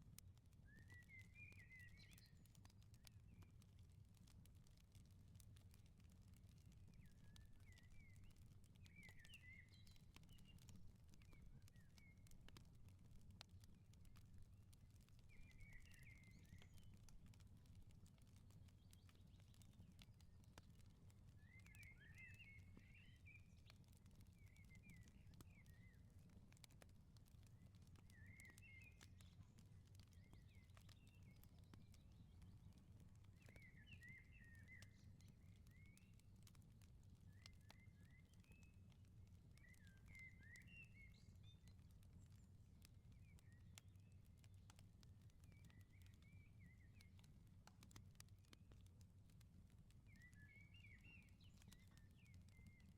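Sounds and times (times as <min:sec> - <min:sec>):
faint wood fire crackles: 0:00.0 - 0:52.9.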